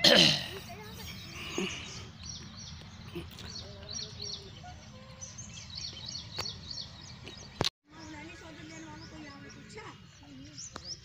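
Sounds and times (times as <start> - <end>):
small birds chirping: 0.5 - 11.0.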